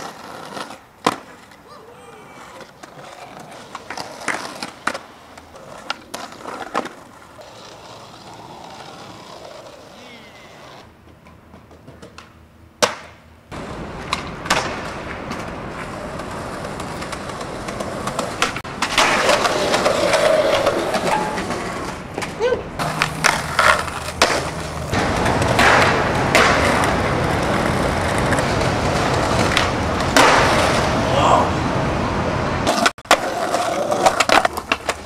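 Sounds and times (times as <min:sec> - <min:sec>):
skateboard clacking and landing: 0:00.0 - 0:01.6, 0:02.4 - 0:10.0, 0:10.8 - 0:31.1, 0:32.6 - 0:35.0
skateboard wheels rolling on pavement: 0:00.0 - 0:35.0.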